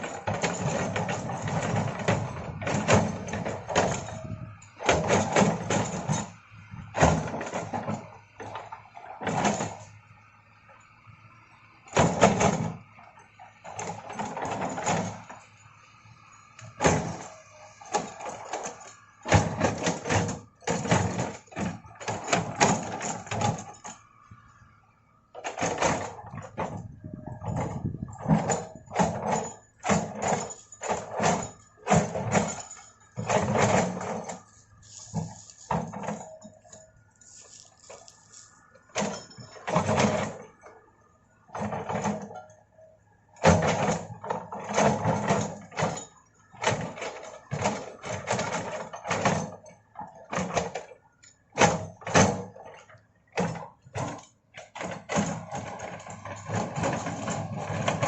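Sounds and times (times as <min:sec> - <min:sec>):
excavator engine with loud surges: 0:00.0 - 0:58.0.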